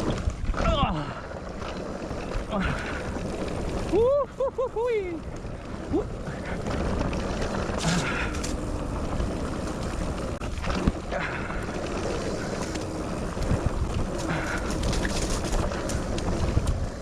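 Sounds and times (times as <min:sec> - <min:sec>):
bike clattering over bumps: 0:00.0 - 0:17.0
tyres rolling on dirt: 0:00.0 - 0:17.0.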